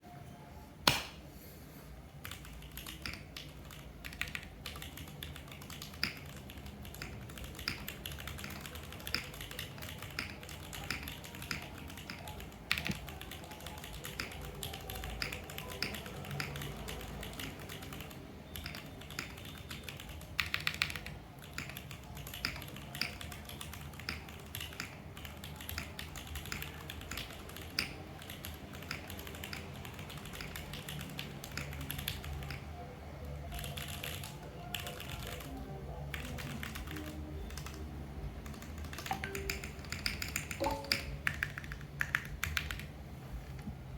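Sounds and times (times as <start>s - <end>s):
steady background noise: 0.0s - 43.9s
mechanical keyboard keystroke clacks: 2.2s - 32.7s, 33.5s - 35.5s, 38.4s - 42.9s.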